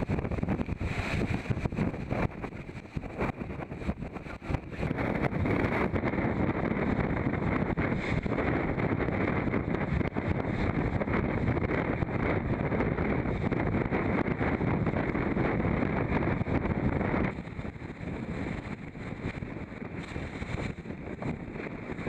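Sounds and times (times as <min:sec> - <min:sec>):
water rushing along a hull: 0:00.0 - 0:22.0
wind buffeting microphone: 0:00.0 - 0:22.0.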